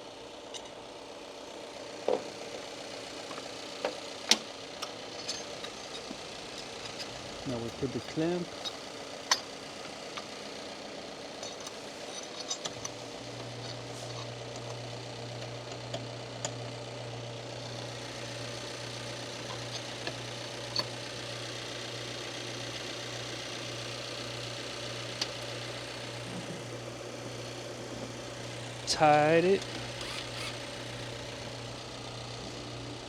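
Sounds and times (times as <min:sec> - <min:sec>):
steady low hum: 0:05.0 - 0:33.0.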